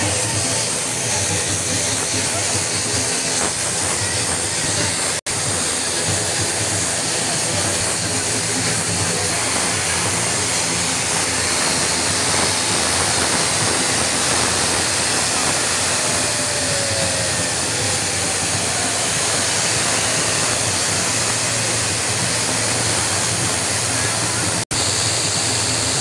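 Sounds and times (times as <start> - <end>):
low engine hum: 0.0 - 26.0
turboprop engines rushing: 0.0 - 26.0.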